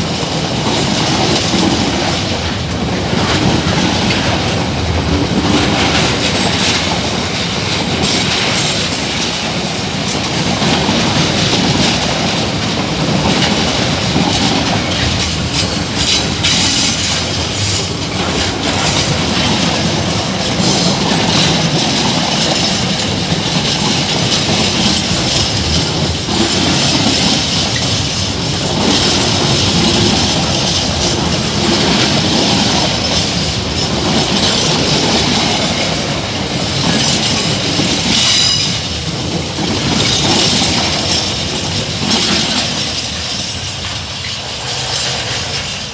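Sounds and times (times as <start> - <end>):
train wheels rumbling on rail: 0.0 - 45.9
wheels clattering over rail joints: 0.0 - 45.9.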